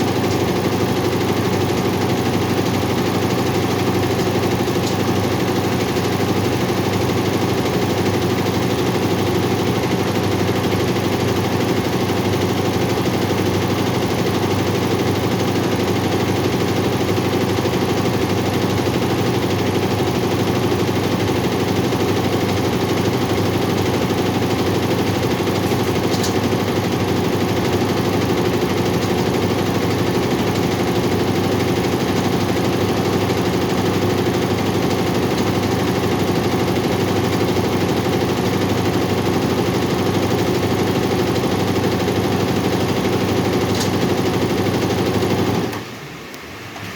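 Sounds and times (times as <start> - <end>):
embroidery machine stitching rattle: 0.0 - 45.8.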